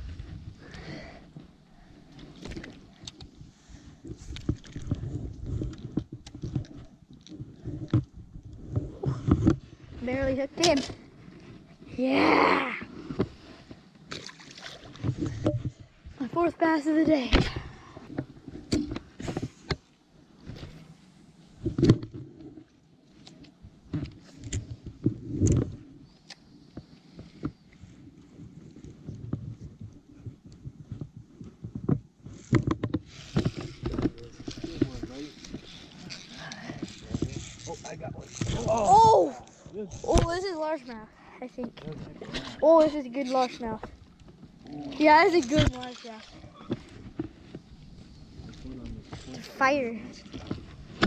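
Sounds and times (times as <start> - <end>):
water noise: 0.0 - 30.9, 32.2 - 51.0
wind: 0.0 - 51.0.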